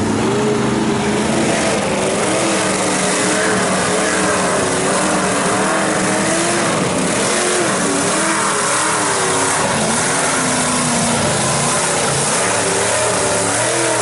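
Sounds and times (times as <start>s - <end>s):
mud and tyre noise: 0.0s - 14.0s
truck engine running hard: 0.0s - 14.0s.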